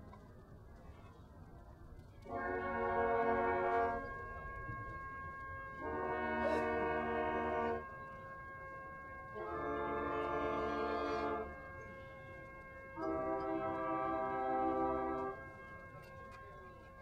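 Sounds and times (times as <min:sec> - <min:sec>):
brass line playing held chords: 0:02.2 - 0:17.0.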